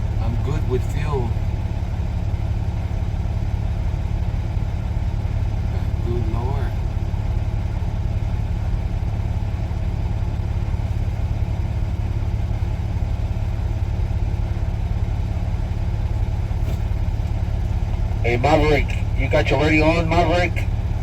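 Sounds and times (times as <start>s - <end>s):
truck diesel engine rumbling: 0.0s - 21.0s.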